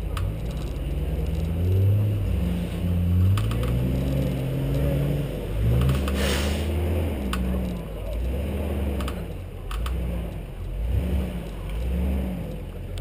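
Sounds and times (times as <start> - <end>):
engine revving off-road: 0.0 - 13.0.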